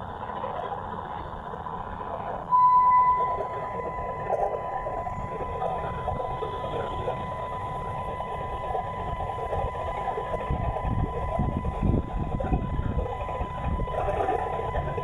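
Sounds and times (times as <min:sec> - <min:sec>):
rough radio interference noise: 0:01.4 - 0:15.0
constant high whistle: 0:02.4 - 0:15.0.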